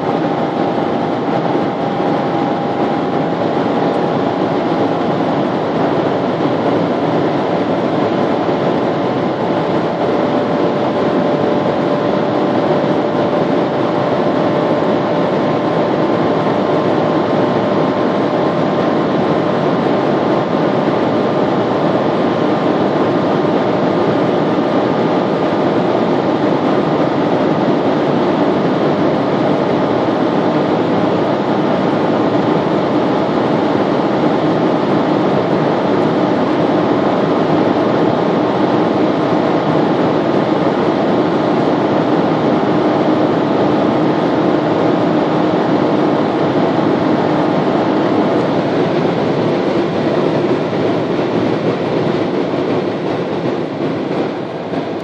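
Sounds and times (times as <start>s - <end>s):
car engine at high revs: 0.0s - 55.0s
wind and road noise: 0.0s - 55.0s.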